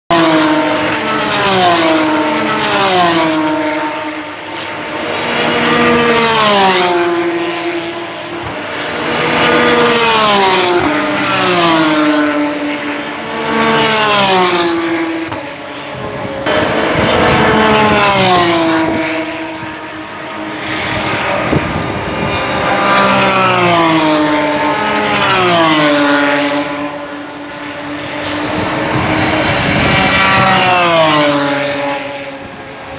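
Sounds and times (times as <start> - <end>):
race cars passing at speed: 0.1 - 32.9.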